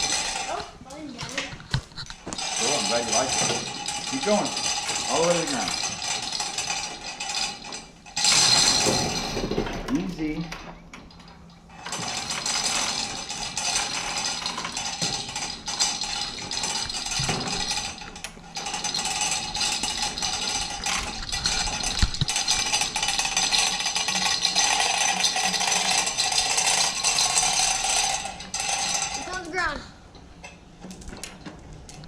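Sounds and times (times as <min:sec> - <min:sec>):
lift rattling and clicking: 0:00.0 - 0:32.0.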